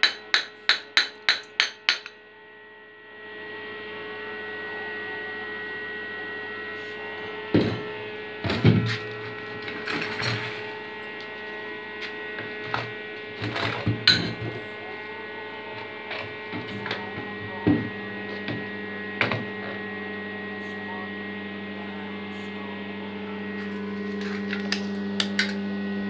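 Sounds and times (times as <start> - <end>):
electrical mains hum: 0.0 - 26.0
deeper hum: 2.1 - 26.0.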